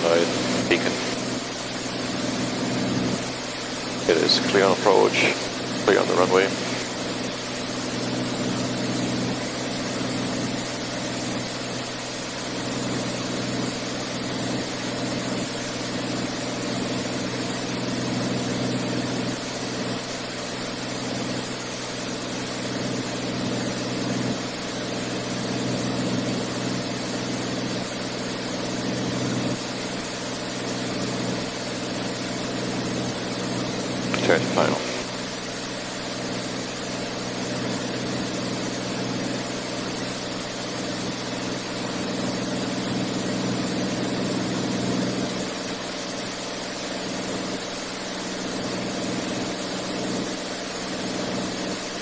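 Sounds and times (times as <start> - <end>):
propeller aircraft engine running: 0.0 - 52.0.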